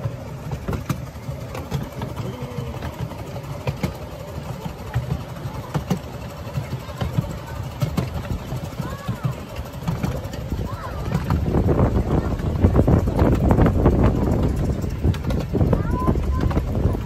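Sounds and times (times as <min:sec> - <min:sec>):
train wheels rumbling: 0:00.0 - 0:17.0
wheels clacking over rail joints: 0:00.0 - 0:17.0.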